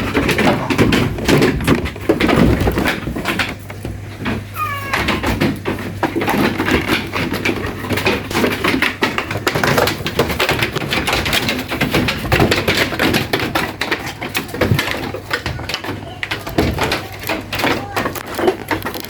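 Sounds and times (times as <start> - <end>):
goats clicking and knocking: 0.0 - 19.0.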